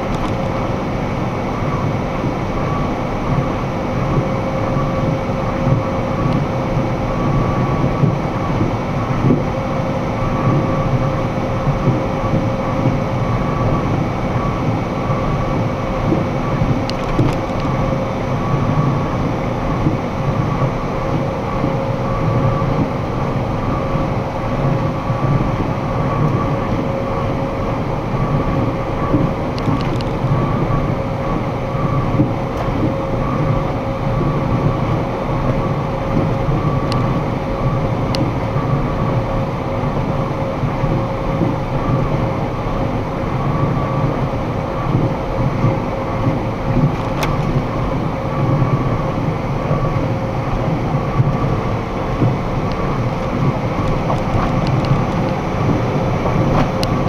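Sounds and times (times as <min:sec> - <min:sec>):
droning hum: 0:00.0 - 0:57.0
road and engine rumble: 0:00.0 - 0:57.0.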